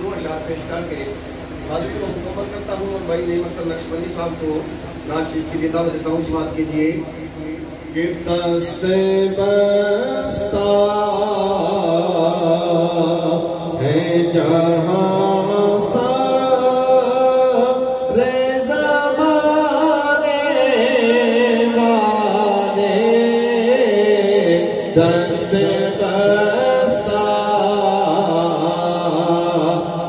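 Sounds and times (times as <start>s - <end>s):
man singing devotional song: 5.2s - 30.0s.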